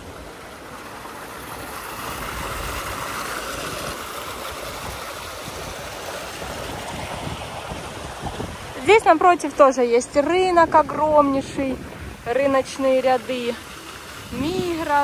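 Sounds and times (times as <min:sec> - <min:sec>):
running water on slides: 0:00.0 - 0:15.0.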